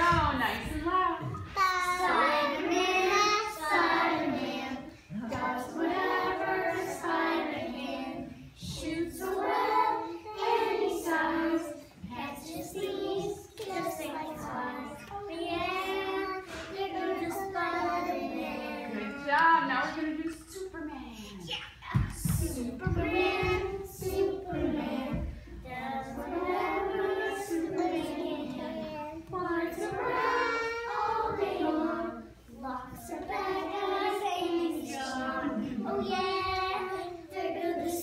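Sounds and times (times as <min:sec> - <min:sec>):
young children singing: 0:00.0 - 0:20.8, 0:21.4 - 0:38.0.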